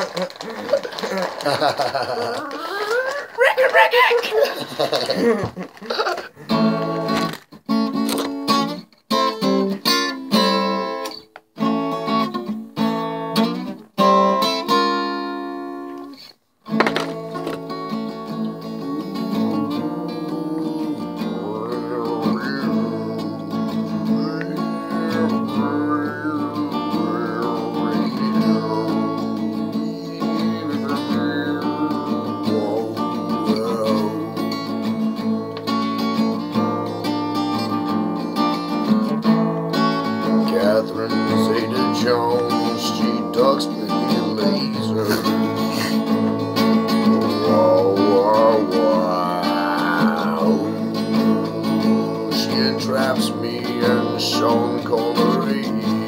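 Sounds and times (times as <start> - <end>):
acoustic guitar chords: 6.4 - 56.0.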